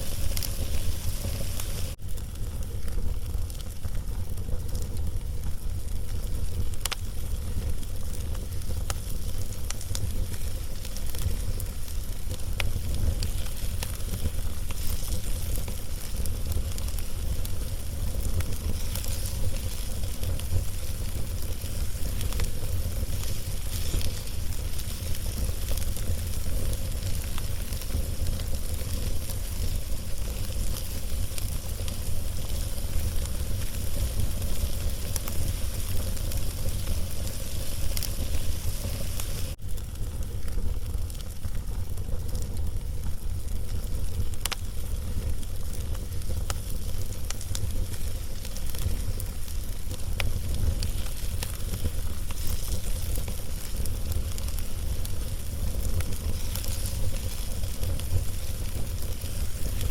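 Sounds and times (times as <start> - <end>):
faint sizzle: 0.0 - 59.9
log fire crackling: 0.0 - 59.9.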